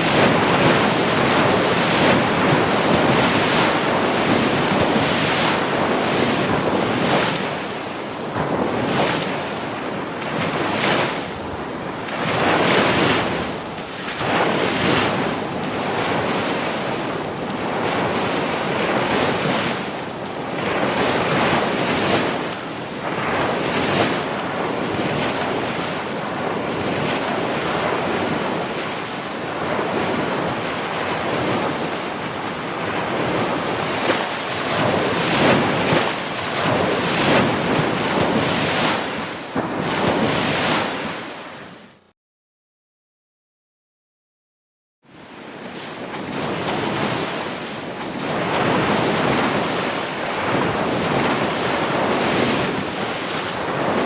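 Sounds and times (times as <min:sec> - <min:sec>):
ocean waves breaking: 0:00.0 - 0:42.0, 0:45.1 - 0:54.0.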